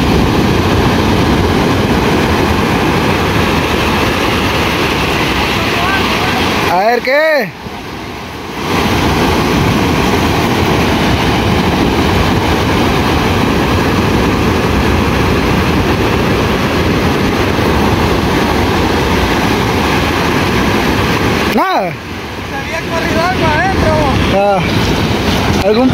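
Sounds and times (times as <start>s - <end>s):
ocean surf breaking: 0.0s - 25.9s.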